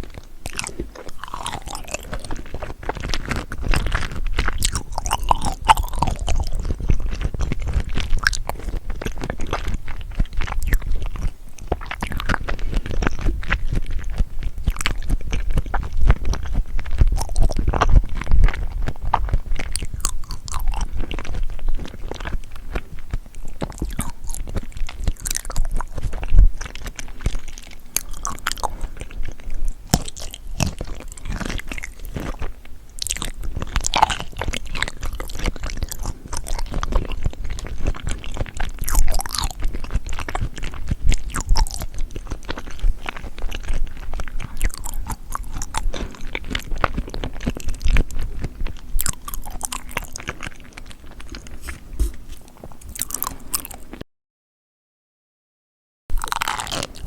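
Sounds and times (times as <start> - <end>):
mouth clicks: 0.0 - 53.8
wet crunchy chewing: 0.0 - 54.0, 56.1 - 57.0.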